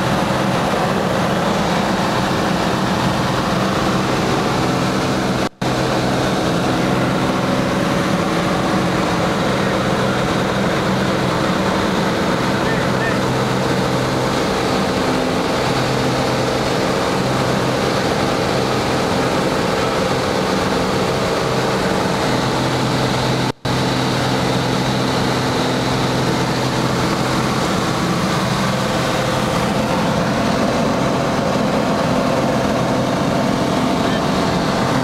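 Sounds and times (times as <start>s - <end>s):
light aircraft engine droning: 0.0s - 35.0s.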